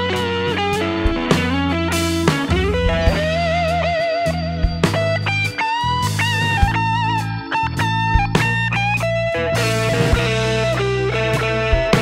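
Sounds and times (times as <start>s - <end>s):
bass and drum beat: 0.0s - 12.0s
electric guitar lead line: 0.0s - 12.0s.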